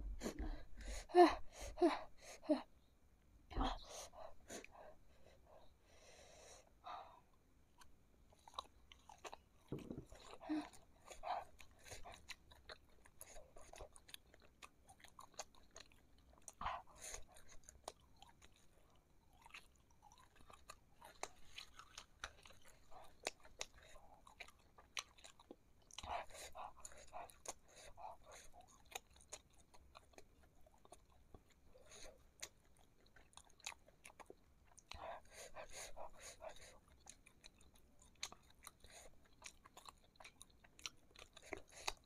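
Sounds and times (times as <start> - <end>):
person chewing: 7.8 - 42.0.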